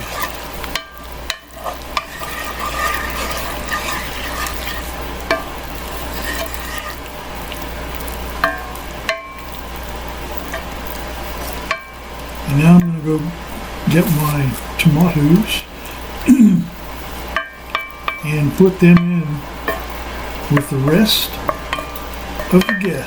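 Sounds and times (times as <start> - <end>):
sauce sizzling in skillet: 0.0 - 23.0.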